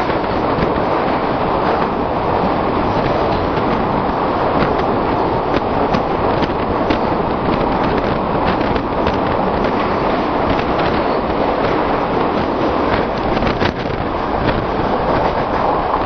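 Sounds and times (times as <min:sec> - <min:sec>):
train rumbling on track: 0:00.0 - 0:16.0
wheels clicking and rattling: 0:00.0 - 0:16.0.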